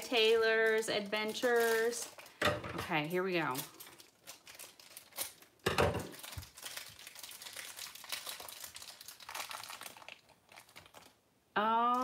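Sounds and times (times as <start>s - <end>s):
plastic wrapper crinkling: 0.0s - 11.2s.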